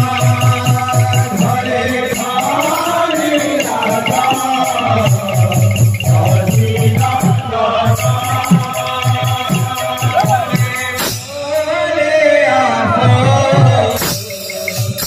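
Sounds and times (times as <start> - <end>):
hand cymbals and jingle rings: 0.0 - 12.0, 13.5 - 15.0
men chanting together: 0.0 - 15.0.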